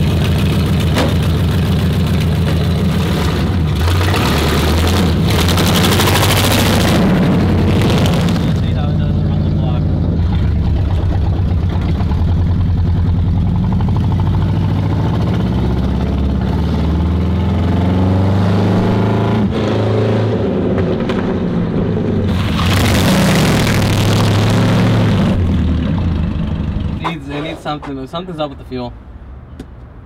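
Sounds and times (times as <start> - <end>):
car engine running: 0.0 - 19.4, 20.3 - 27.6.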